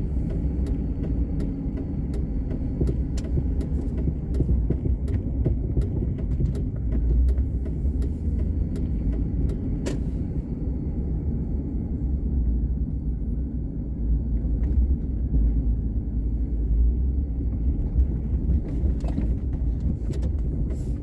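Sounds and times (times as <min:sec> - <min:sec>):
car driving rumble: 0:00.0 - 0:21.0.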